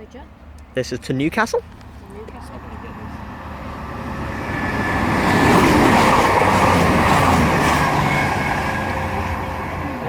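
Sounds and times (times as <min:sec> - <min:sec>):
train diesel engines: 0:00.0 - 0:10.0
train wheels on rails: 0:01.7 - 0:10.0.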